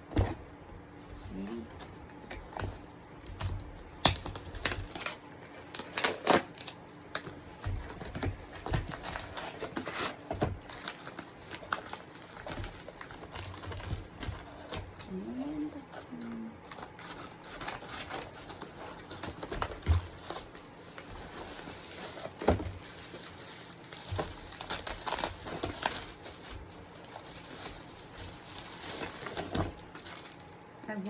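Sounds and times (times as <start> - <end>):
packaging rustling and crinkling: 1.0 - 15.2, 16.6 - 30.6.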